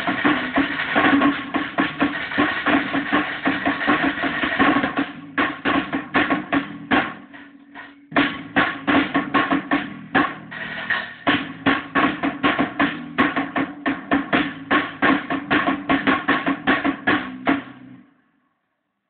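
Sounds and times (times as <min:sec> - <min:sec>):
drum kit beat: 0:00.0 - 0:18.1.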